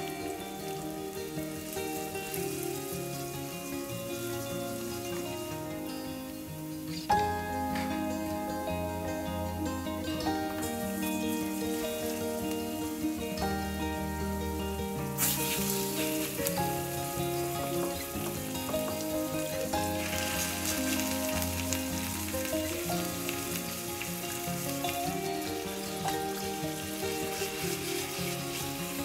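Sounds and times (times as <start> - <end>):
chicken sizzling in hot oil: 0.0 - 29.0
instrumental background music: 0.0 - 29.0.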